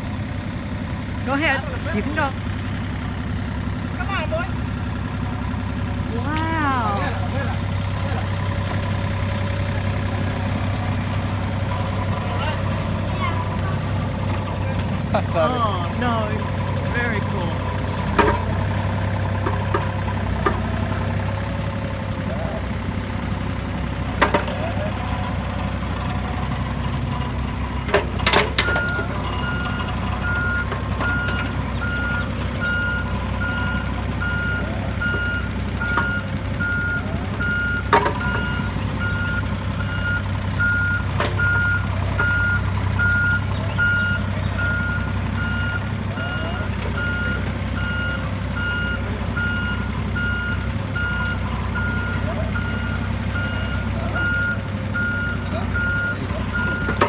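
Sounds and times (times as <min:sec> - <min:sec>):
diesel engine hum: 0:00.0 - 0:57.0
excavator travel alarm beeping: 0:00.7 - 0:57.0.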